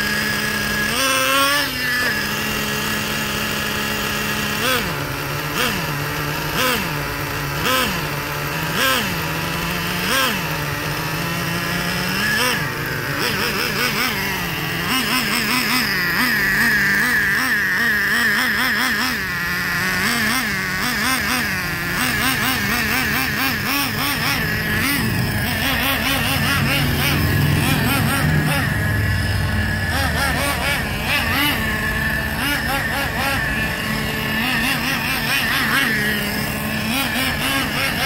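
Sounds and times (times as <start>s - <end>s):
small nitro engine revving: 0.0s - 38.0s.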